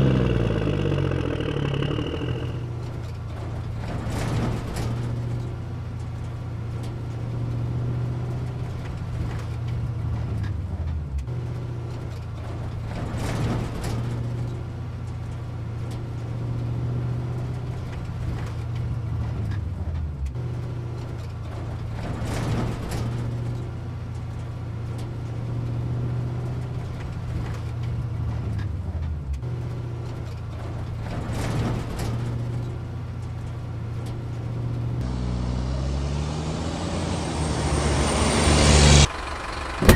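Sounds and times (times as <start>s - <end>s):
heavy vehicle engine running: 0.0s - 16.4s, 17.5s - 39.9s
engine clatter: 0.0s - 39.9s.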